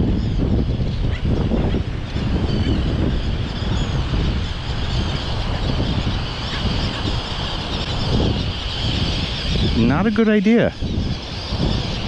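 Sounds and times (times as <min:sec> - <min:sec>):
seabirds calling: 0:00.0 - 0:12.0
wind rumble on microphone: 0:00.0 - 0:12.0.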